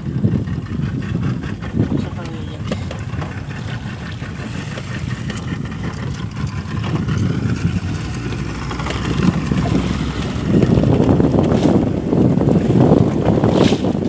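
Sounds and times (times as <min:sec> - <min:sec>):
boat engine low rumble: 0:00.0 - 0:14.0
wind buffeting microphone: 0:00.0 - 0:14.0.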